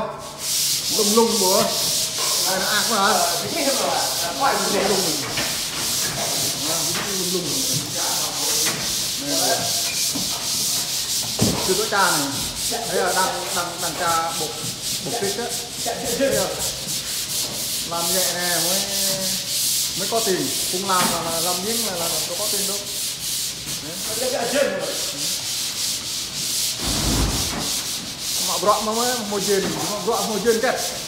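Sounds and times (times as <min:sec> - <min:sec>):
pole sander rasping: 0:00.5 - 0:27.0.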